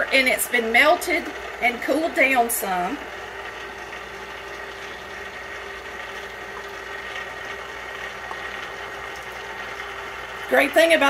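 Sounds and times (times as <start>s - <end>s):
stand mixer motor humming: 0.0s - 11.0s.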